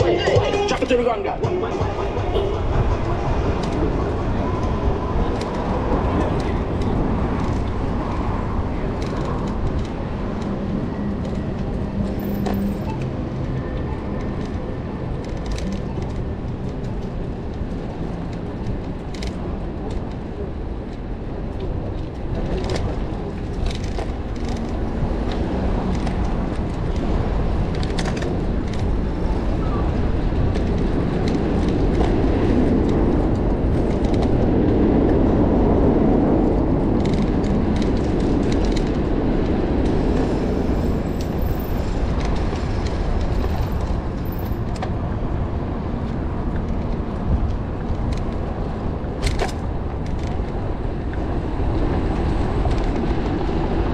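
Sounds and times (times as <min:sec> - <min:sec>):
bus rumbling: 0:00.0 - 0:53.9
street traffic rumble: 0:00.0 - 0:53.9.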